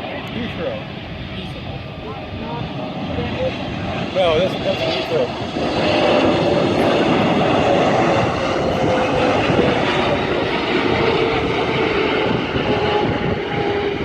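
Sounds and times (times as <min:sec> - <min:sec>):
jet engines passing low: 0:00.0 - 0:14.0.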